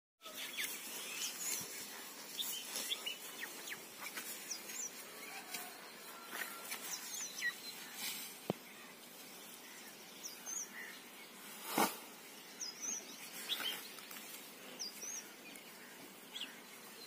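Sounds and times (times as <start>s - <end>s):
birds chirping: 0.2s - 17.0s
steady background hiss: 0.3s - 17.0s.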